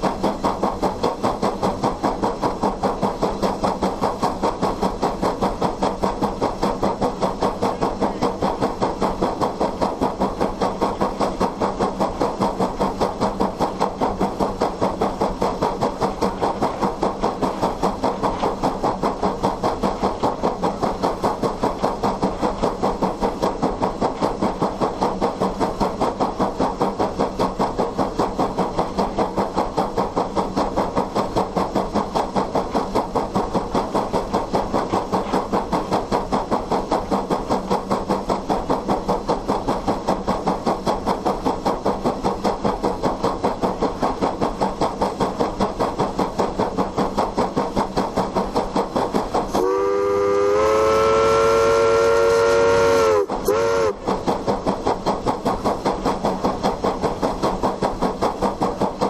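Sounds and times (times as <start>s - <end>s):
steam locomotive exhaust chuffing: 0.0s - 59.0s.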